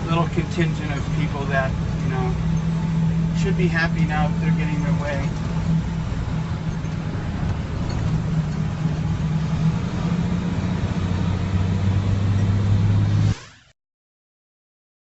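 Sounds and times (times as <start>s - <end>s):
low steady note: 0.0s - 12.6s
truck engine droning: 0.0s - 13.7s.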